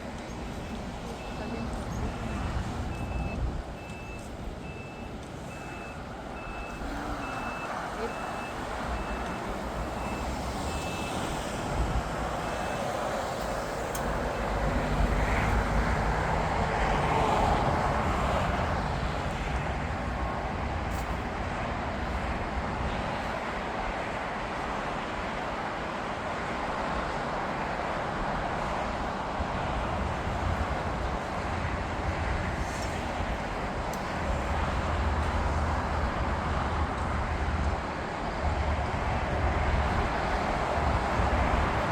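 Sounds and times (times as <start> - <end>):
traffic rumble: 0.0 - 41.9.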